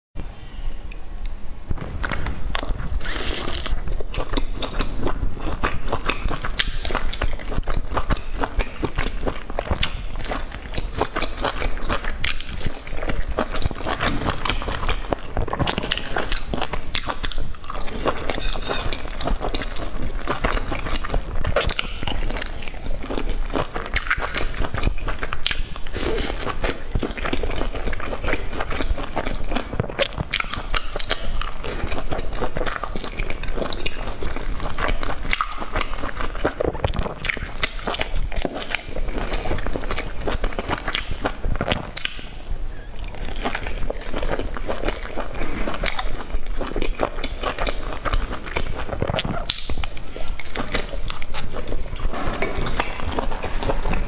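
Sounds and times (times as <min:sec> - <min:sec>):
person chewing and smacking: 0:01.7 - 0:54.0.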